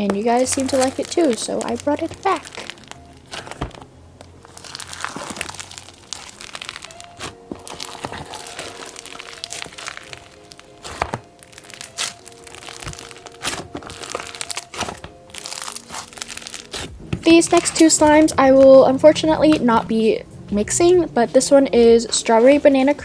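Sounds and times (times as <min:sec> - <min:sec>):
slime crackling and popping: 0:00.0 - 0:19.7
quiet background music: 0:00.0 - 0:23.0.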